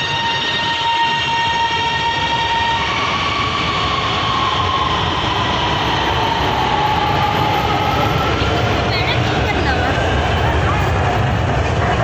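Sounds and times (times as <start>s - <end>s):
electric train rumble and whine: 0.0s - 12.0s.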